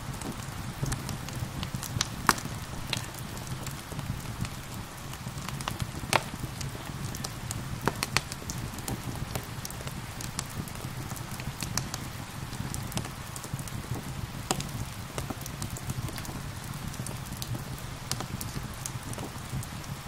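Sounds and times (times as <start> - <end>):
steady rain: 0.0 - 20.0
wood fire crackling: 0.0 - 20.0.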